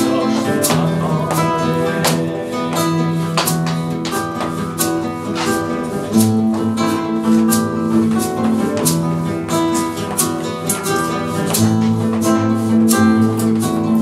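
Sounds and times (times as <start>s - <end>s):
acoustic guitars playing flamenco: 0.0s - 14.0s.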